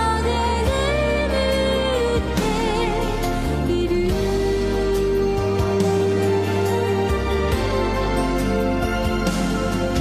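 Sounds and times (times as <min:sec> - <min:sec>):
instrumental backing: 0:00.0 - 0:10.0.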